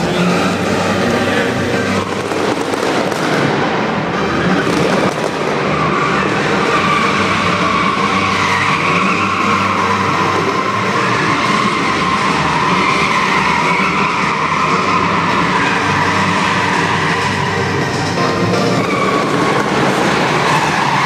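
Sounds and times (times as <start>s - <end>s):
car engine running hard: 0.0s - 21.0s
tyres squealing: 3.4s - 21.0s.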